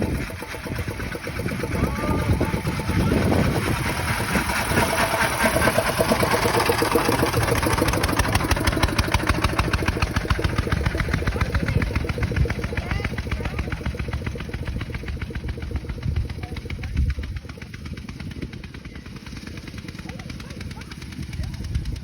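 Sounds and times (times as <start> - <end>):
old car engine chugging: 0.0 - 22.0.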